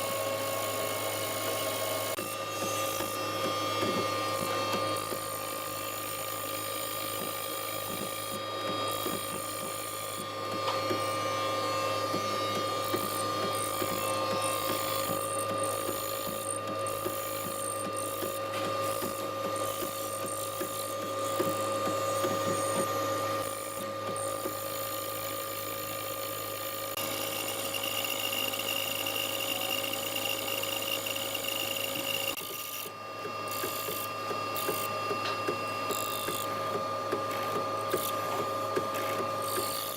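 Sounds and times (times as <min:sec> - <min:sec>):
power tool humming and whining: 0:00.0 - 0:39.9.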